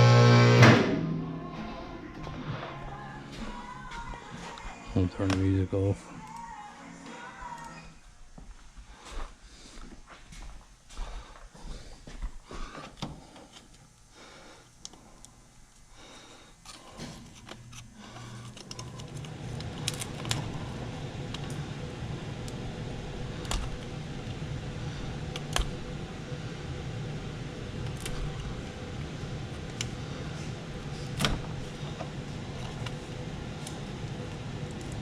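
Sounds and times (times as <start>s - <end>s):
low hum: 0.0s - 9.4s, 14.2s - 35.0s.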